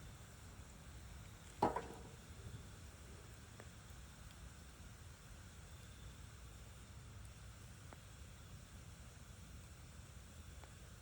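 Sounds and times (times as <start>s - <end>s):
campfire hissing: 0.0s - 11.0s
small fire crackles: 0.0s - 11.0s.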